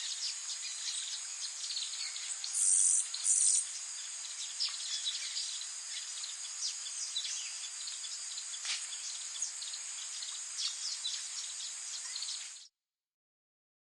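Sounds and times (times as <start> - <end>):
birds chirping: 0.0 - 12.7
insect drone: 0.0 - 12.7.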